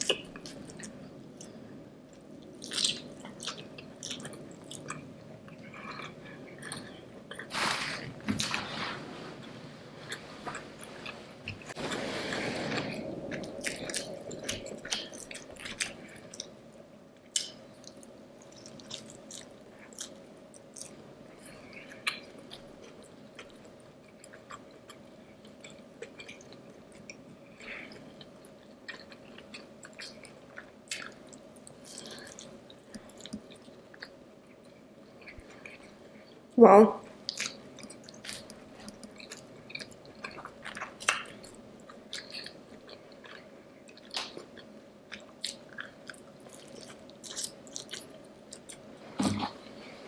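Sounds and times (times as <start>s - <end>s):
person chewing: 0.0s - 8.6s, 10.0s - 16.6s, 17.3s - 27.2s, 27.8s - 36.0s, 37.2s - 49.8s.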